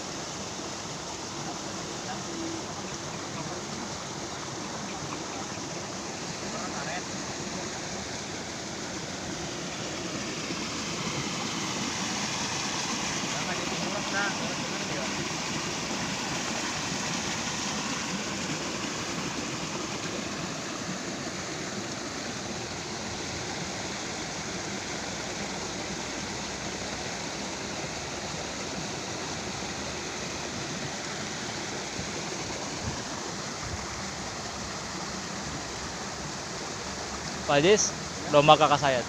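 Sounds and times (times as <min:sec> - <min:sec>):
water rushing: 0:00.0 - 0:39.0.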